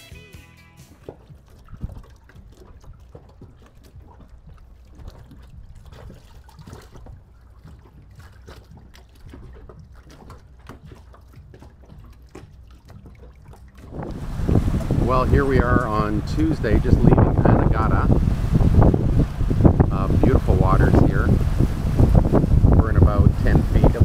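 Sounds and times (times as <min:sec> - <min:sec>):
water lapping against boat hull: 0:00.8 - 0:24.0.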